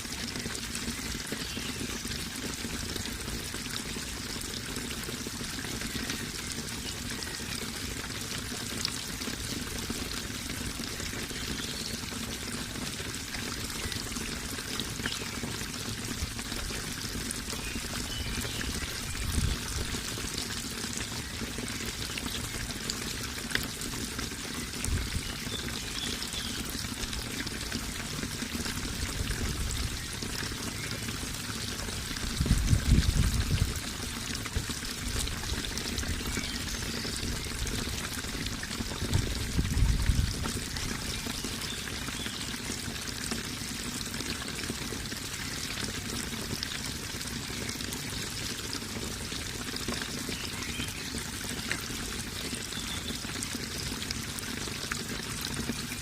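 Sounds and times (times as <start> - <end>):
running water splashing: 0.0 - 56.0.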